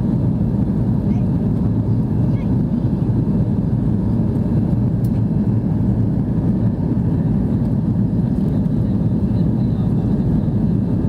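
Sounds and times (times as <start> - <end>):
jet engine rumble in cabin: 0.0 - 11.0.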